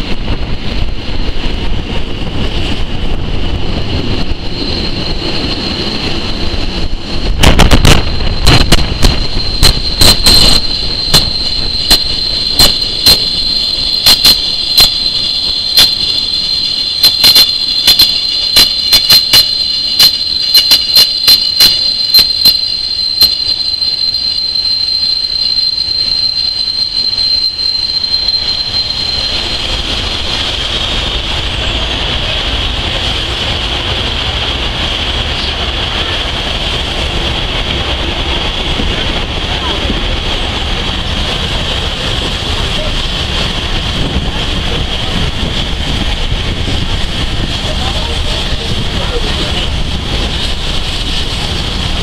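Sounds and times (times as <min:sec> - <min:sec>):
train rumble: 0:00.0 - 0:52.0
train wheel squeal: 0:00.0 - 0:52.0.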